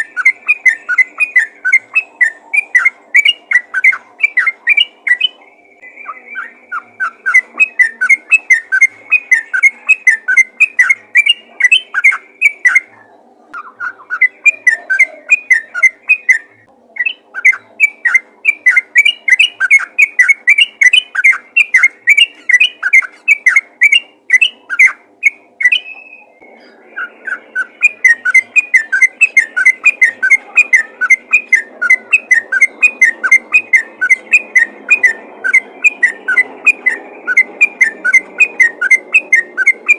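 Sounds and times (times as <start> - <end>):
bird singing chirpy notes: 0.0 - 39.9.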